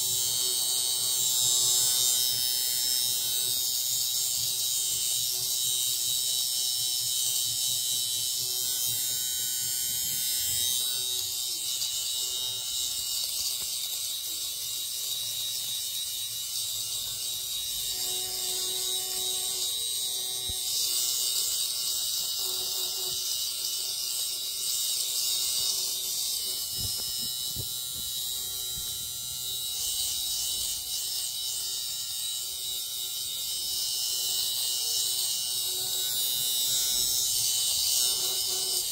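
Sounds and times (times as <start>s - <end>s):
fabric shaver whirring: 0.0s - 38.9s.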